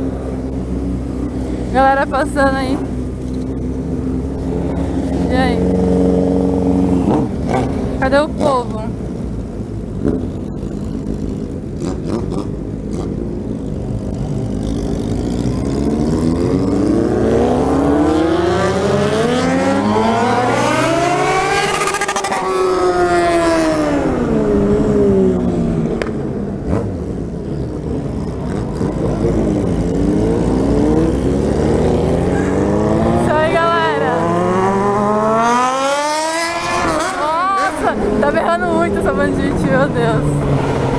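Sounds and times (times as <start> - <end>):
motorcycle engine revving: 0.0 - 9.0, 9.6 - 40.9.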